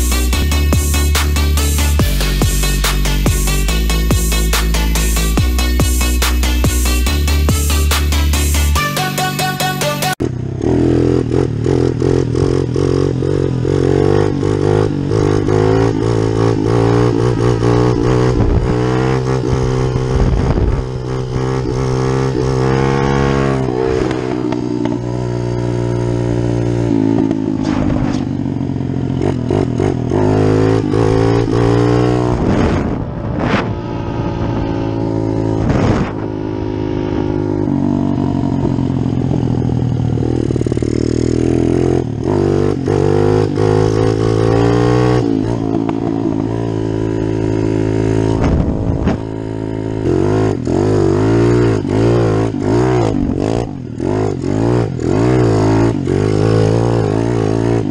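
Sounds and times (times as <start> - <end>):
motorbike engine revving: 0.0 - 57.9.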